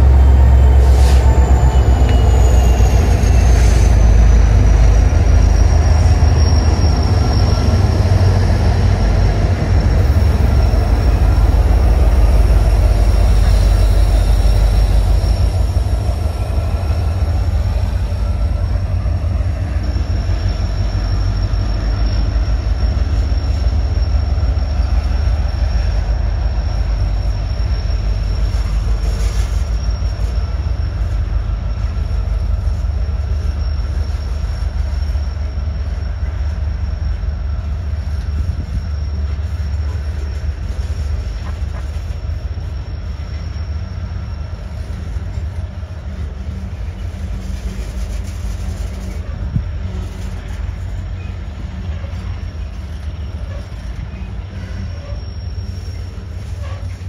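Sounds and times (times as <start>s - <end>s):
train rumbling past: 0.0s - 57.0s
wheels squealing on rails: 0.0s - 57.0s.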